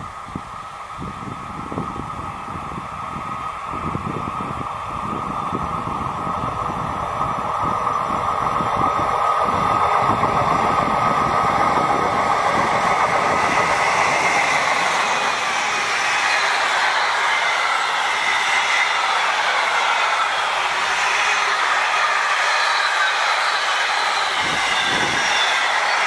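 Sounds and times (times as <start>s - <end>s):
electric freight train approaching: 0.0s - 26.0s.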